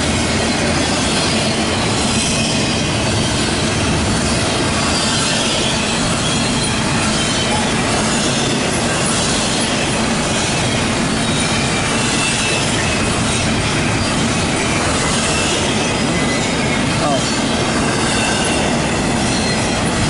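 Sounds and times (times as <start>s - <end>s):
train wheels rumbling on rail: 0.0s - 20.0s
high wheel squeals: 0.2s - 20.0s.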